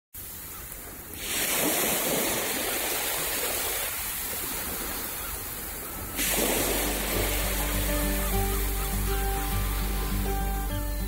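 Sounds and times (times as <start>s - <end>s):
ocean surf washing ashore: 0.2s - 10.8s.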